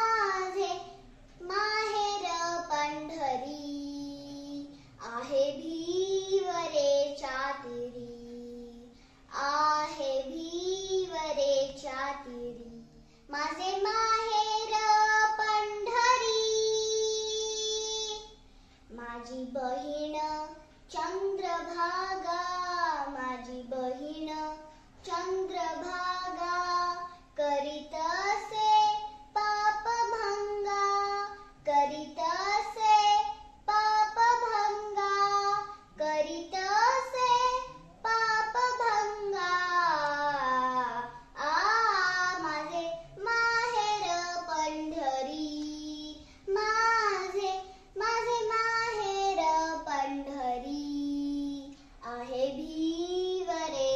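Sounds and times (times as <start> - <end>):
girl singing unaccompanied: 0.0 - 53.9.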